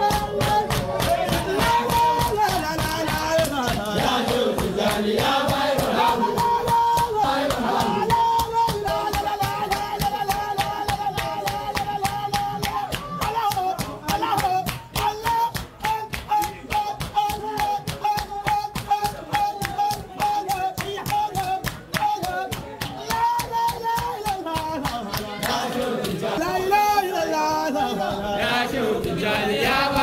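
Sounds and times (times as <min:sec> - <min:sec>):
rhythmic hand clapping: 0:00.0 - 0:30.0.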